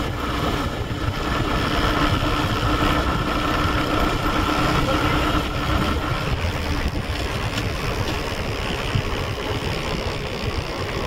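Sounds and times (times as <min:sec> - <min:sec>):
motorbike engine: 0:00.0 - 0:11.0
road noise: 0:00.0 - 0:11.0
wind buffeting microphone: 0:00.0 - 0:11.0.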